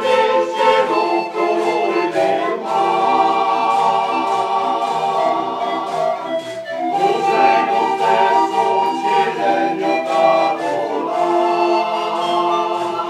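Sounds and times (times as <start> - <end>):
pan flute ensemble chords: 0.0 - 13.0.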